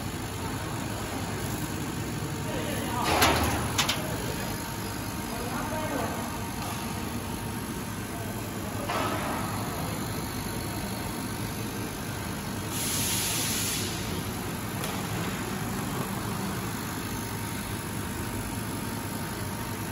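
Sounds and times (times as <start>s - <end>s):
laser cutter mechanical hum: 0.0s - 19.9s.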